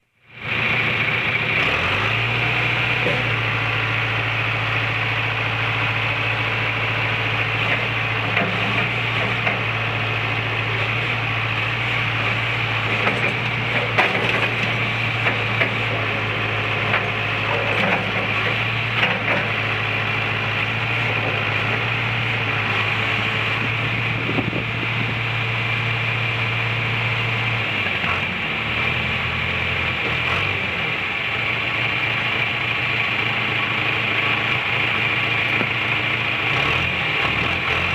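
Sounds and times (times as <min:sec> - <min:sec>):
backhoe diesel engine running: 0:00.3 - 0:37.9.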